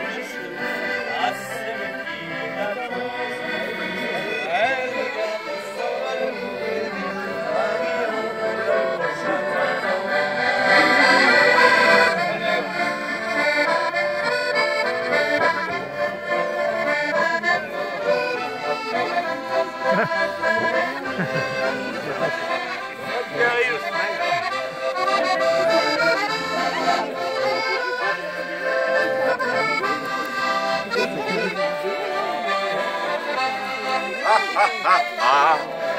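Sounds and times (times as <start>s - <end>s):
accordions playing dance tune: 0.0s - 35.9s.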